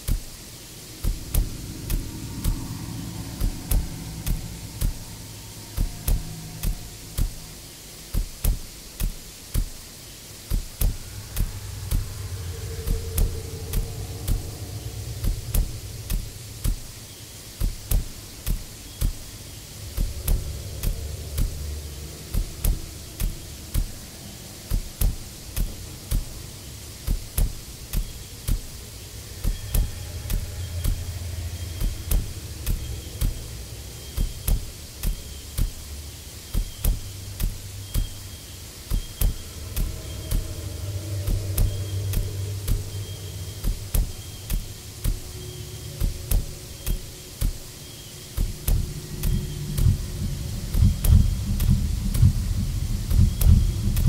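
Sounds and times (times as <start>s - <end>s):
low rumble: 0.0s - 54.0s.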